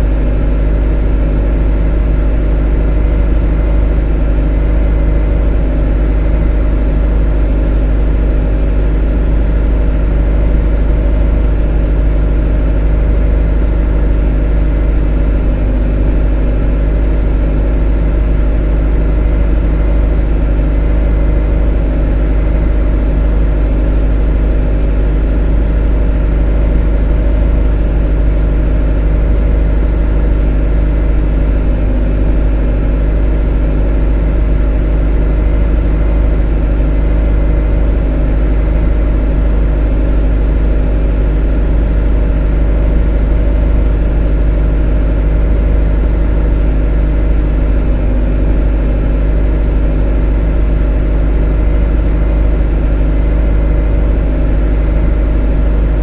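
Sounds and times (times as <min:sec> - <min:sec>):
motor humming: 0:00.0 - 0:56.0.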